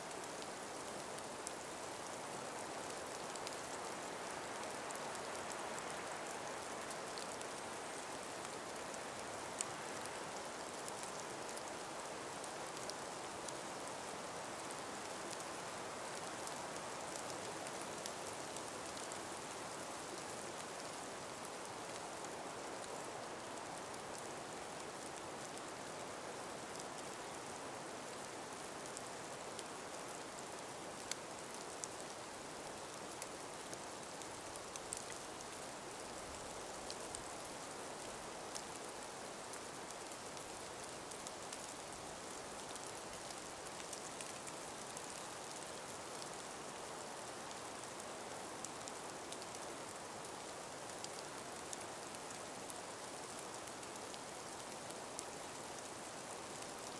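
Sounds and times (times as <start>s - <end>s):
breeze through forest: 0.0s - 56.9s
small ticks: 3.2s - 11.7s, 16.1s - 27.5s, 28.2s - 56.9s.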